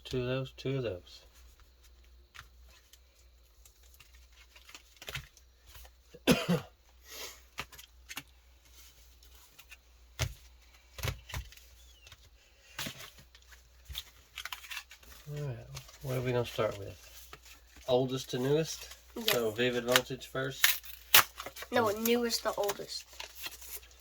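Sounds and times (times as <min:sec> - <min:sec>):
booster packs crinkling and rustling: 0:01.2 - 0:24.0.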